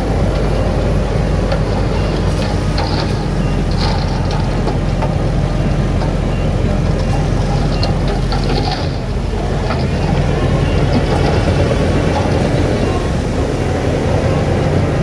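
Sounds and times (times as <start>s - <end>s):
metallic clanks and squeaks: 0.0s - 13.1s
heavy diesel machinery running: 0.0s - 15.0s.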